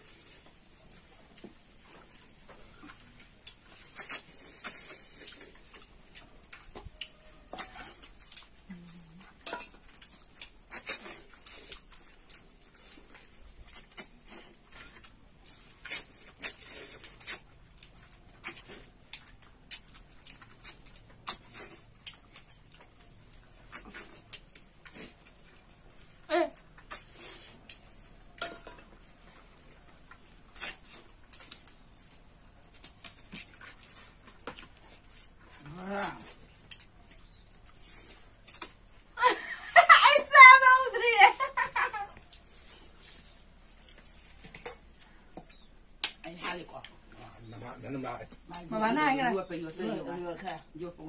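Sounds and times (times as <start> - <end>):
people eating with mouth smacks: 0.0 - 39.7, 41.4 - 51.0.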